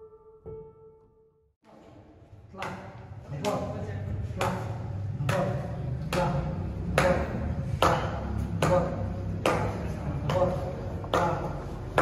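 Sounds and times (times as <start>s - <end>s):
steady low hum: 2.1s - 12.0s.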